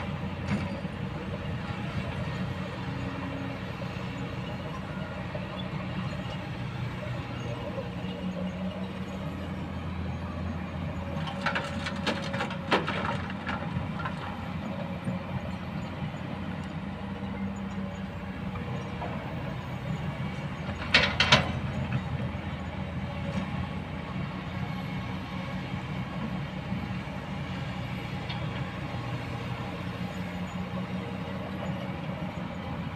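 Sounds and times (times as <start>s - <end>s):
excavator diesel engine droning: 0.0s - 32.9s.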